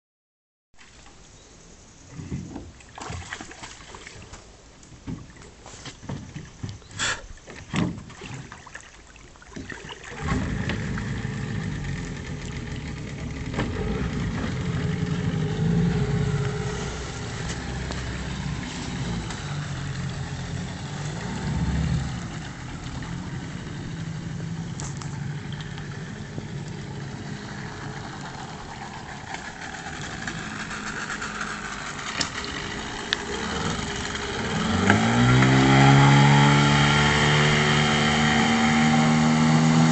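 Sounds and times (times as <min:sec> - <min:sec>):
outboard motor running: 0:06.1 - 0:39.9.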